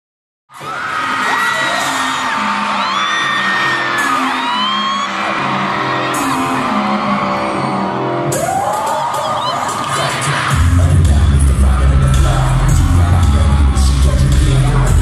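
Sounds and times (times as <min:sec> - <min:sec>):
crowd screaming and whooping: 0:00.5 - 0:15.0
live pop concert music: 0:00.5 - 0:15.0.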